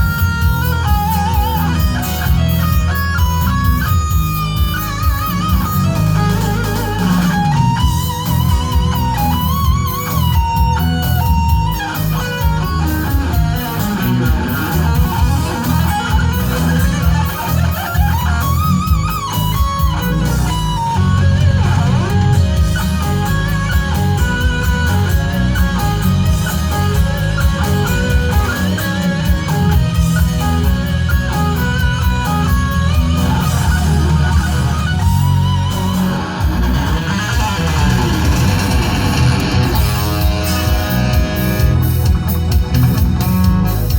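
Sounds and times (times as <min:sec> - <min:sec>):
bass guitar: 0:00.0 - 0:43.9
drums: 0:00.0 - 0:43.9
electric guitar lead melody: 0:00.0 - 0:43.9.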